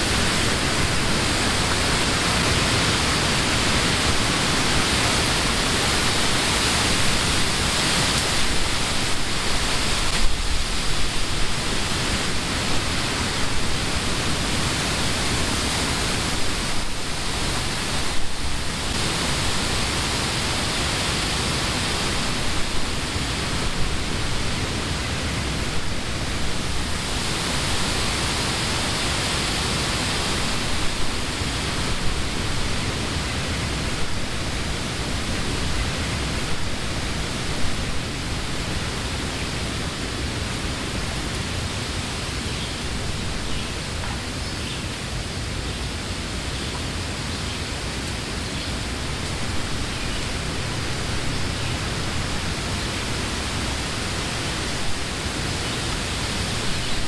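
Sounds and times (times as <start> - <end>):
wind rustling leaves: 0.0 - 57.0.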